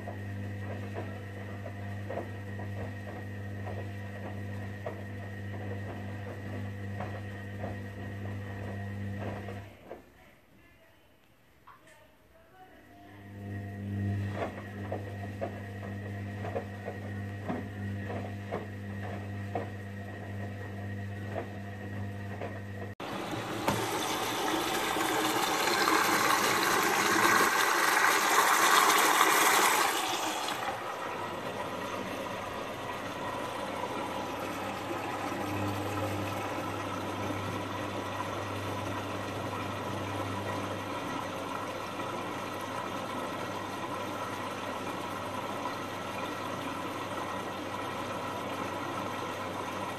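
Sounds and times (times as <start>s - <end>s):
water rushing into washing machine: 0.0s - 9.9s, 13.3s - 49.9s
washing machine drum motor hum: 0.0s - 10.0s, 13.2s - 49.9s.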